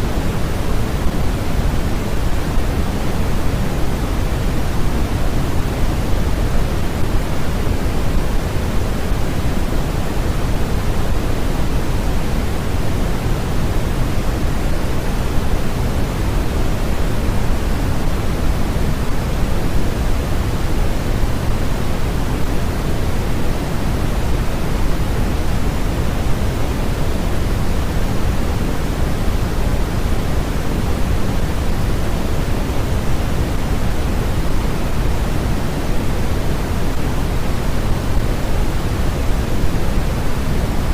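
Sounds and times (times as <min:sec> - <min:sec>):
steady generated noise hiss: 0:00.0 - 0:40.9.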